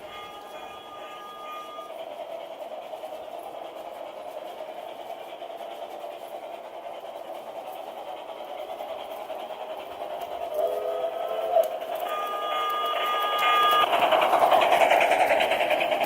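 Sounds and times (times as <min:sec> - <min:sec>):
model train motor whirring: 0:00.0 - 0:16.0.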